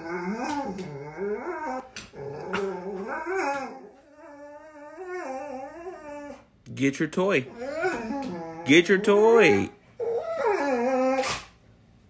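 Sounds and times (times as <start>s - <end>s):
dog whining: 0.0s - 6.6s, 7.4s - 11.6s.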